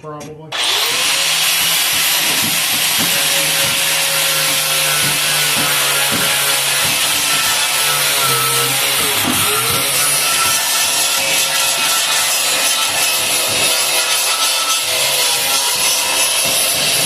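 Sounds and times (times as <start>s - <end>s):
power grinder on metal: 0.5s - 17.0s.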